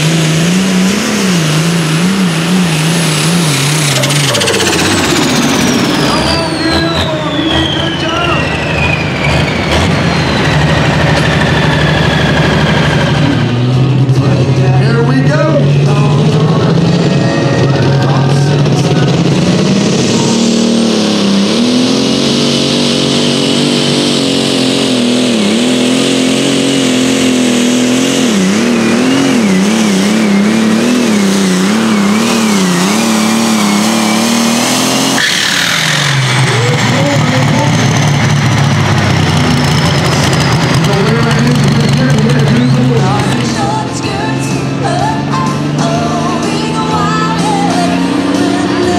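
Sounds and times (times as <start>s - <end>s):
tractor engine at full throttle: 0.0s - 48.9s
high whine winding down: 1.0s - 48.9s.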